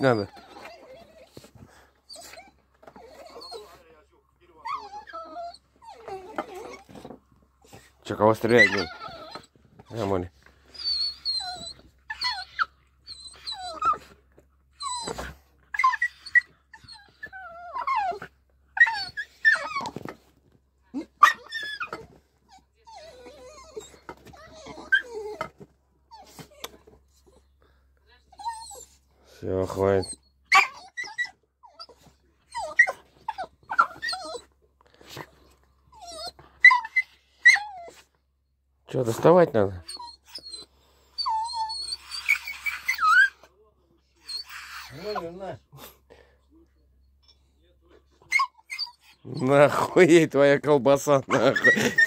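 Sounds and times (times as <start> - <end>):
dog whining and whimpering: 0.0 - 3.9, 4.6 - 27.6, 28.3 - 38.2, 39.1 - 45.6, 48.1 - 50.0, 51.3 - 52.0.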